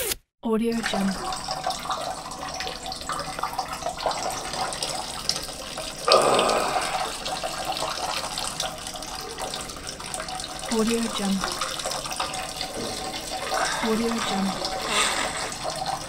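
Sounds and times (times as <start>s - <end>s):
urine stream splashing in toilet: 0.8s - 16.0s.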